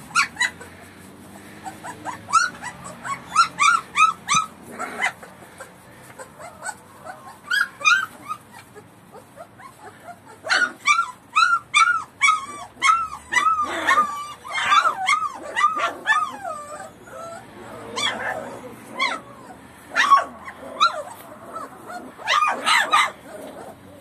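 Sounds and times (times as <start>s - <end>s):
puppies whining and yelping: 0.0s - 24.0s.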